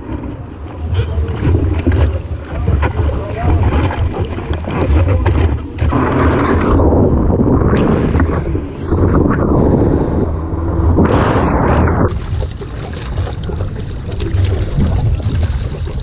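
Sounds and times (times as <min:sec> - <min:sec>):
rushing ocean water: 0:00.0 - 0:16.0
wind buffeting microphone: 0:00.0 - 0:16.0.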